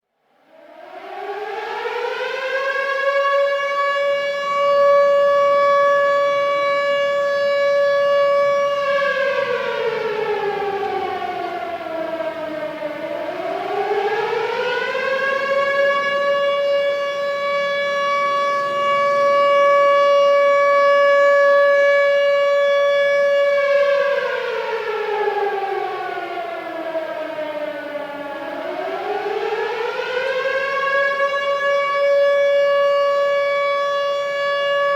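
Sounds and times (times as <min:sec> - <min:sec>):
air raid siren wailing: 0:00.3 - 0:34.9.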